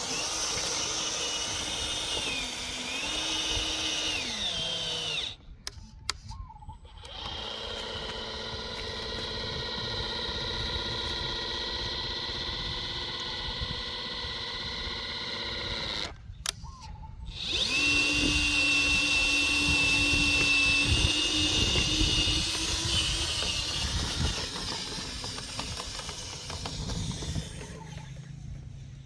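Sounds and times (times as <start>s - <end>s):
small electric motor whining: 0.0s - 29.0s.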